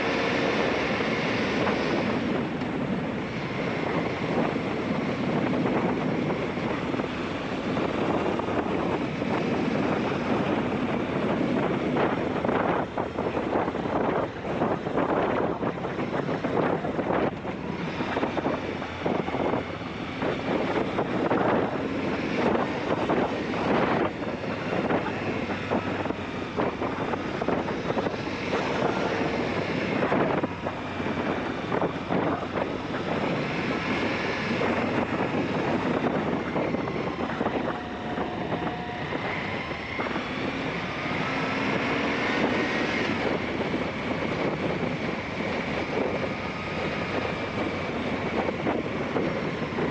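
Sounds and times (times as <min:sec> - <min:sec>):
wind buffeting on microphone: 0:00.0 - 0:49.9.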